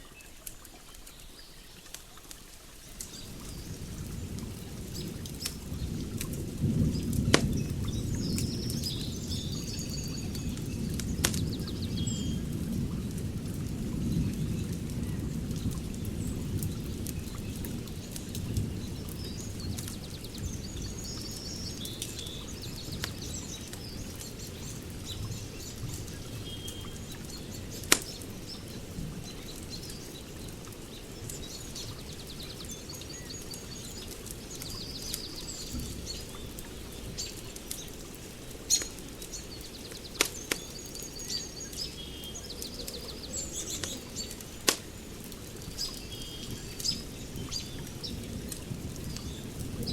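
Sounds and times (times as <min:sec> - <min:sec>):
wood fire crackling and popping: 0:01.8 - 0:49.9
birds chirping: 0:02.9 - 0:49.9.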